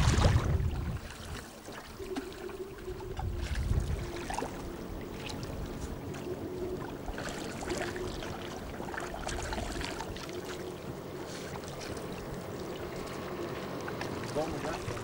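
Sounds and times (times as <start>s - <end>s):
paddle dipping in water: 0.0s - 15.0s
water splashing and lapping: 0.0s - 15.0s.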